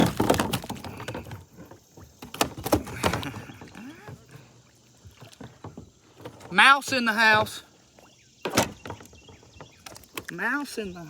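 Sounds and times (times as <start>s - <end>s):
gear knocking against kayak: 0.0s - 7.7s, 8.4s - 10.5s.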